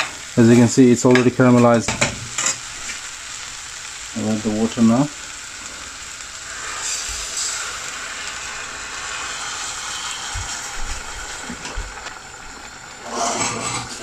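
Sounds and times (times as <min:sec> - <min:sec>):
water sizzling in hot pan: 0:00.0 - 0:14.0
water splash and hiss: 0:00.0 - 0:14.0.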